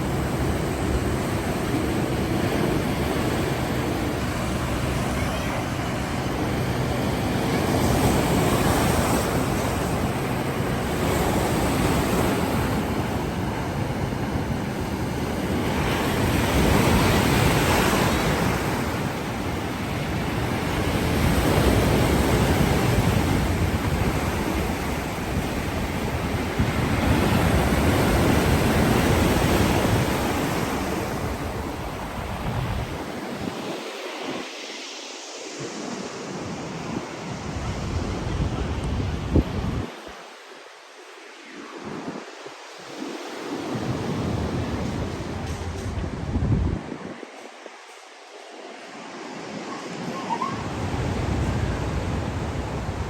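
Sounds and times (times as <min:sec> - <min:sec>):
wind buffeting microphone: 0:00.0 - 0:40.4, 0:41.4 - 0:53.0
surf breaking on shore: 0:00.0 - 0:53.0.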